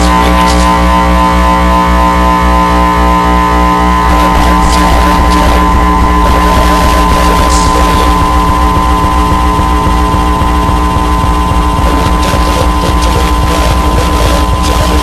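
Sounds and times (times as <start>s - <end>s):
experimental music with drone: 0.0s - 15.0s
rough noisy layer: 0.0s - 15.0s.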